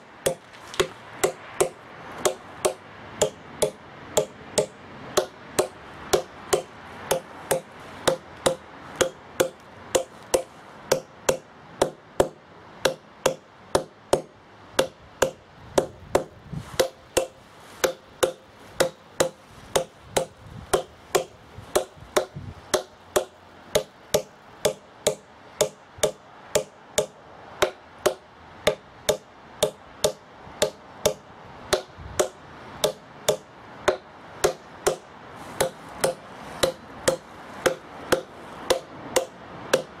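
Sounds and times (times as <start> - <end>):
hammer tapping steel wedges: 0.2 - 35.0, 35.6 - 39.9.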